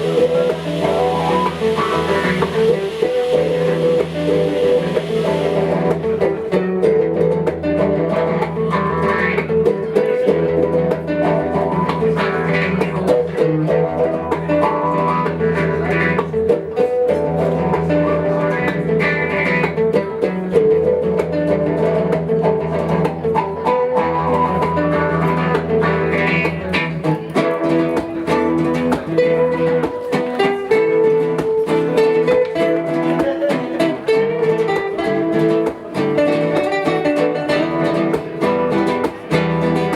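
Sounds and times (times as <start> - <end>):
plucked guitar notes: 0.0 - 39.9.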